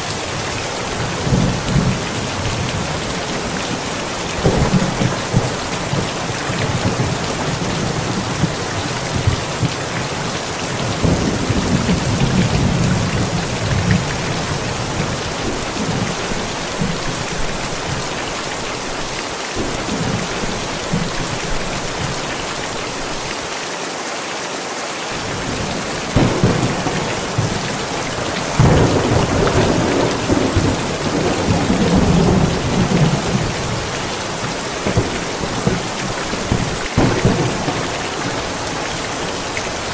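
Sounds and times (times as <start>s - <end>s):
steady rain falling: 0.0s - 39.9s
rolling thunder: 0.4s - 18.0s, 19.6s - 22.8s, 25.2s - 39.9s.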